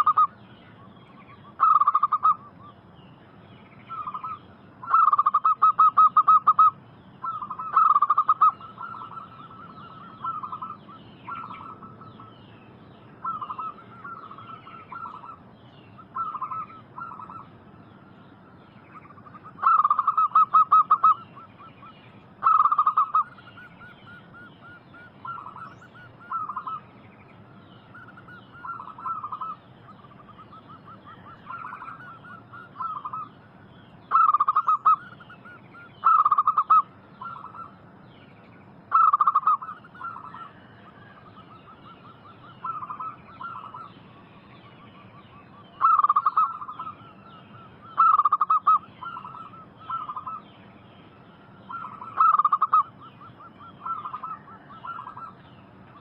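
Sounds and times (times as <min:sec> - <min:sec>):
doves cooing: 0:00.0 - 0:02.9, 0:03.8 - 0:38.0, 0:38.7 - 0:56.0.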